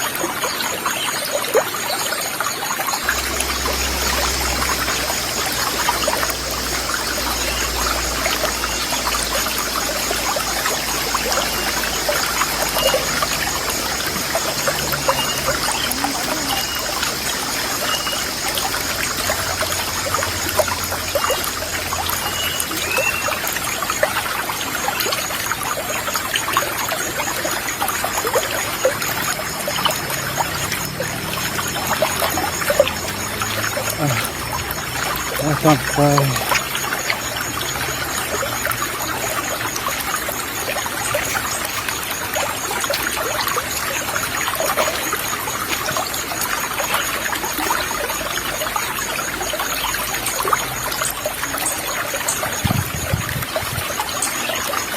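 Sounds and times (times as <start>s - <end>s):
water splashing over rocks: 0.0s - 54.9s.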